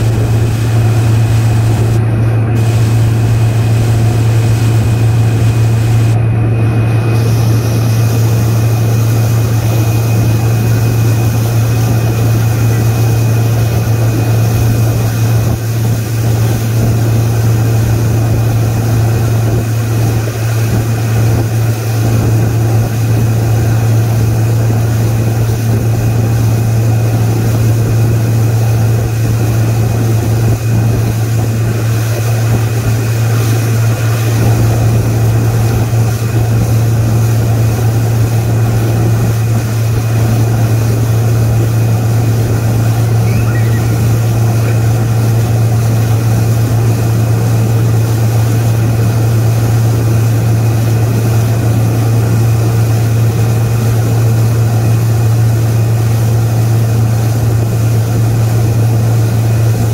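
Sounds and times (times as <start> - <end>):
motorboat engine droning: 0.0 - 59.9
water churning: 0.0 - 59.9.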